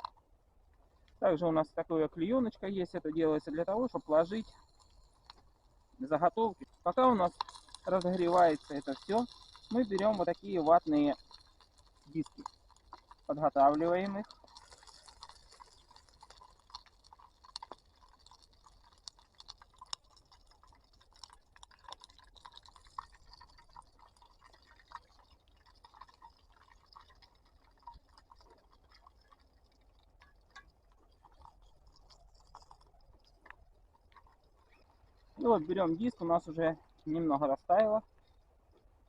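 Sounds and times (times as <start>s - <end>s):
melting wax clicks and crackles: 0.0s - 39.0s.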